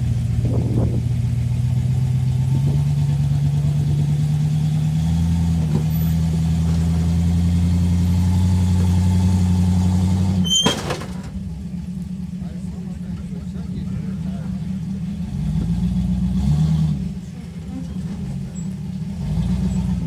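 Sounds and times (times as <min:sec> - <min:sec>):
engine pulling under load: 0:00.0 - 0:20.0.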